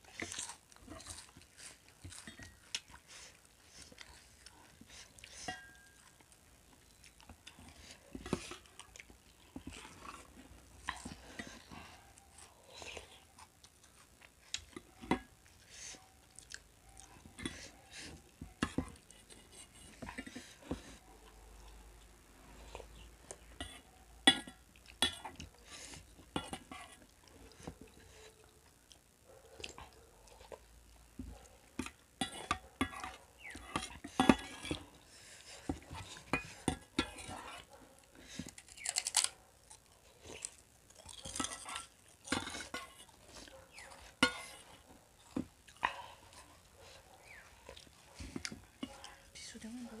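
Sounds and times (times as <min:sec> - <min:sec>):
close-up chewing: 0:00.0 - 0:50.0.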